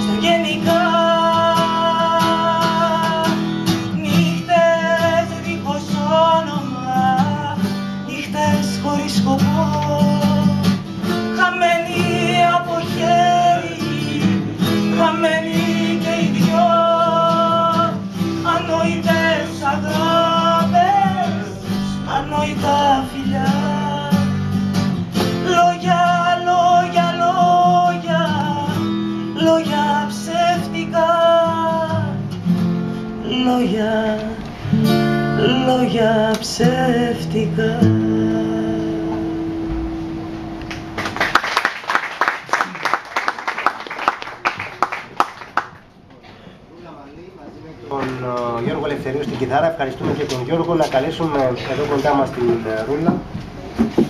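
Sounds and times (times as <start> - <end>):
acoustic guitar: 0.0 - 46.7, 47.8 - 54.0.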